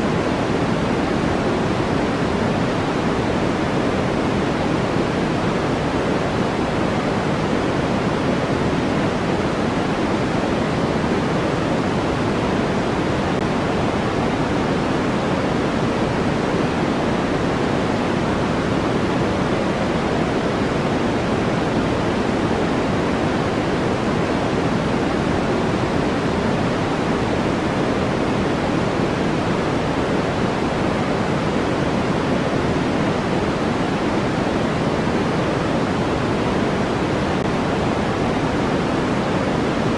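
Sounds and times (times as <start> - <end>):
steady synthetic noise hiss: 0.0 - 39.9.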